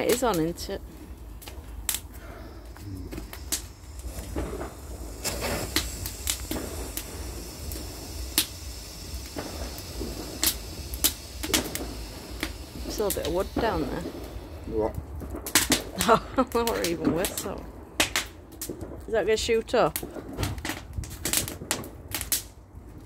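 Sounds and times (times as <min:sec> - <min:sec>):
sharp pops and snaps: 0:00.0 - 0:19.2, 0:19.8 - 0:22.7
bonfire crackling: 0:00.0 - 0:23.0.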